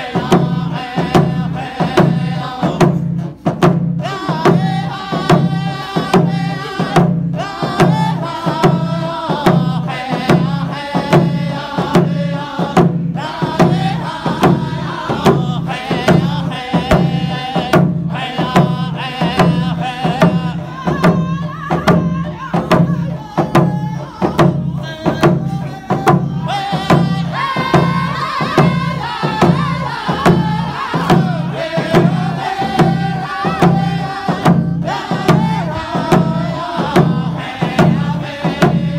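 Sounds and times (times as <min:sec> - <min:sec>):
hand drums beating: 0:00.0 - 0:38.9
men singing in unison: 0:00.0 - 0:38.9.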